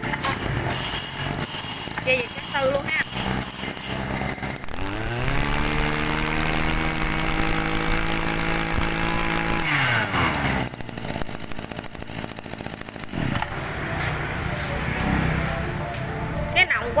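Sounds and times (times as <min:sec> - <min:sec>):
brush-cutter engine revving: 0:00.0 - 0:13.9.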